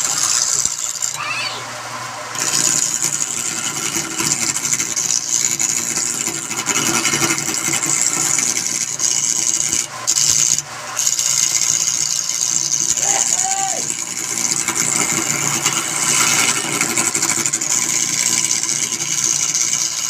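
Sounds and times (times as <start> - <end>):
tool scraping spinning wood: 0.0 - 20.0.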